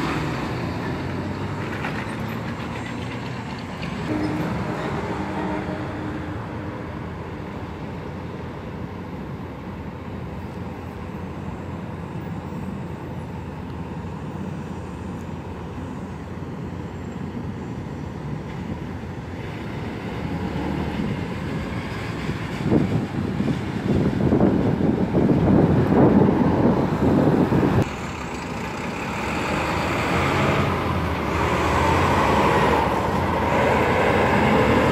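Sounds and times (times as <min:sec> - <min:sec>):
motor vehicles rumbling: 0:00.0 - 0:34.9.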